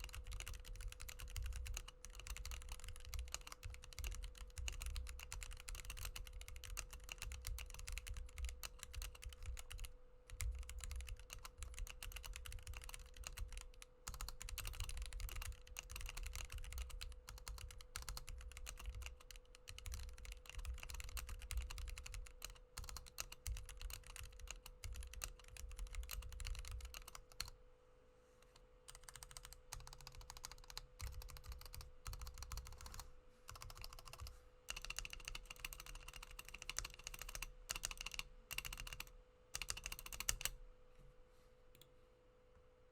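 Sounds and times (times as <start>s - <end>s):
mechanical keyboard typing: 0.0s - 27.6s, 28.9s - 40.6s
faint steady hum: 0.0s - 42.9s.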